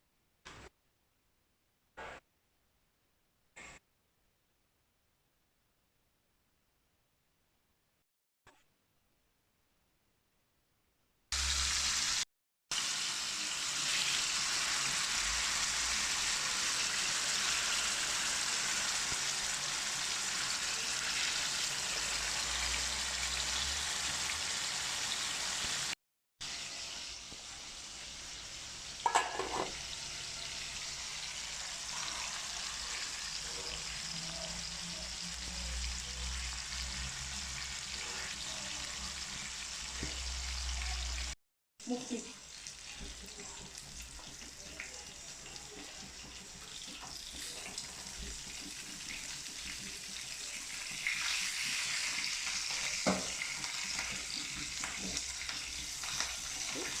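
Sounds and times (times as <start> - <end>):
food sizzling in a pan: 11.3 - 57.0.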